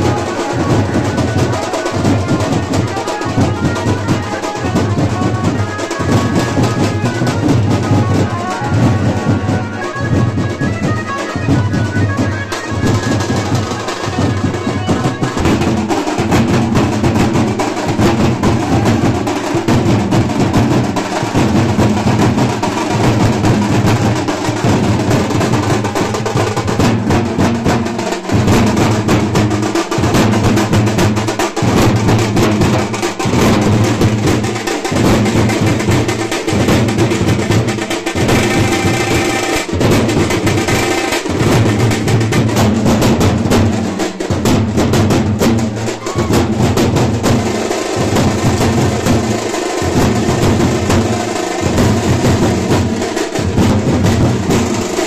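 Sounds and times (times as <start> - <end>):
loud music with heavy drum beat: 0.0 - 55.0.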